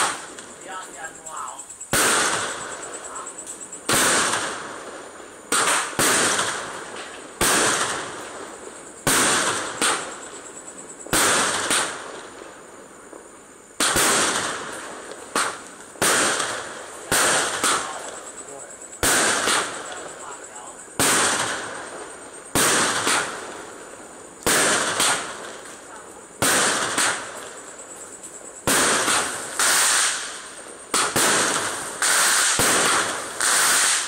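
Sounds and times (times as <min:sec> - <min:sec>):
fireworks bursting: 0:00.0 - 0:34.0.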